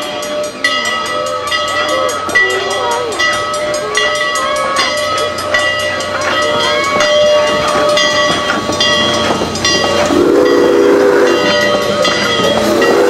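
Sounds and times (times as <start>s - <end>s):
steam locomotive chime whistle: 0.0s - 13.0s
ringing pitched tones: 0.2s - 13.0s.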